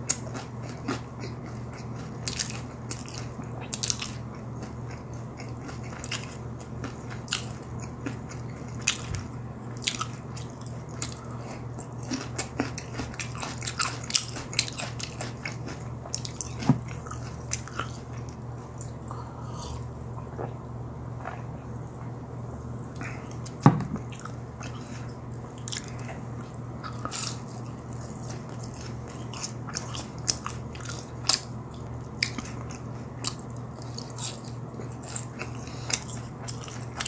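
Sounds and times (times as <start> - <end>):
chewing crunchy fried food: 0.0 - 37.0
steady low hum: 0.0 - 37.0.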